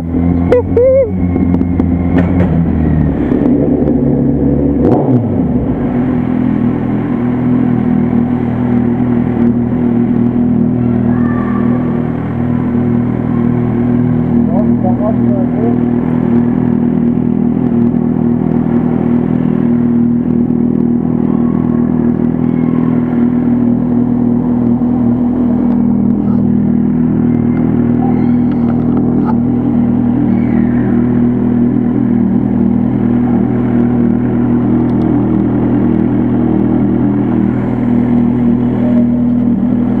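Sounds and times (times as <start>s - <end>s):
motorcycle engine running loud: 0.0s - 40.0s.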